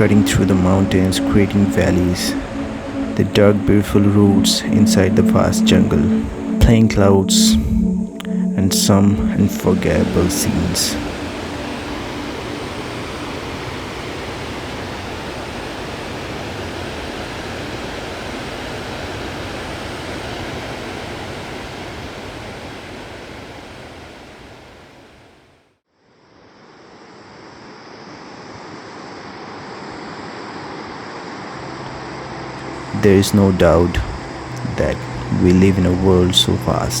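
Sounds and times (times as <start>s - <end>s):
rushing water roar: 0.0s - 6.8s, 8.4s - 25.4s, 28.4s - 37.0s.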